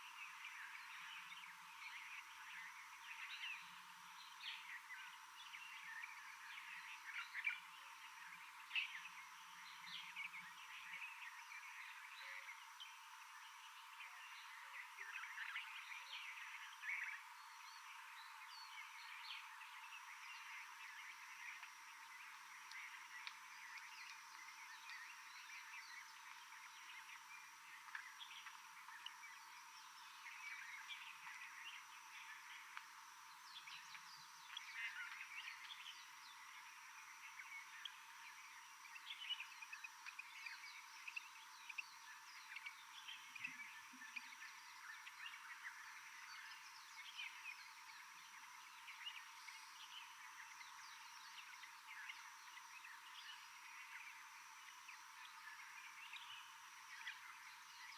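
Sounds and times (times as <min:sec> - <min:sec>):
steady high-pitched hum: 0:00.0 - 0:57.9.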